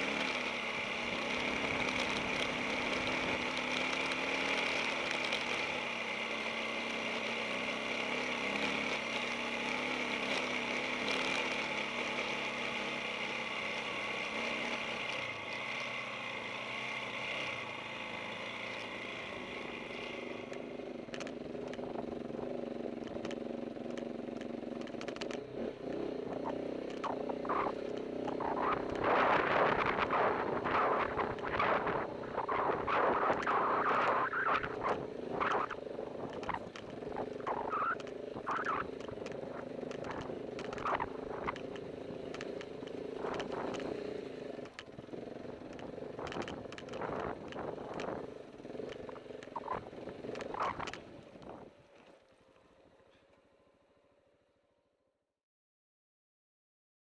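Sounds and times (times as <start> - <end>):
motorcycle running: 0.0 - 54.4.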